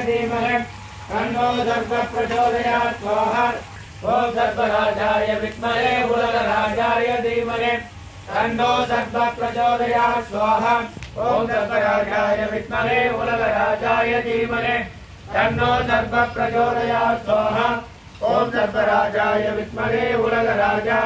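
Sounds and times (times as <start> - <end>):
men chanting mantras: 0.0 - 21.0.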